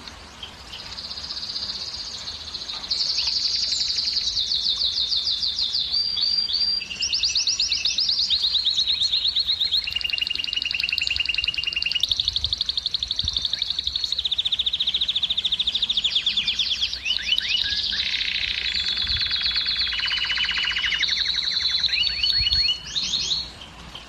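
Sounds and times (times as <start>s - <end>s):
canary singing rapid trills: 1.0s - 23.5s.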